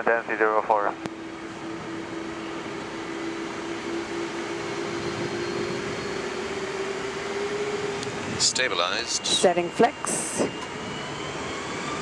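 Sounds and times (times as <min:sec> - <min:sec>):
jet engines spooling up: 0:00.9 - 0:12.0.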